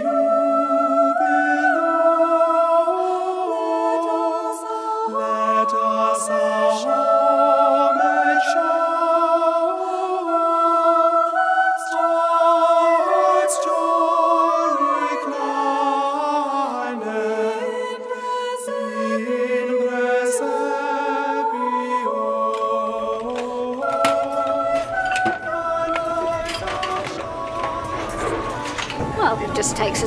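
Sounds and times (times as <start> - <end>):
voices singing in harmony: 0.0 - 30.0.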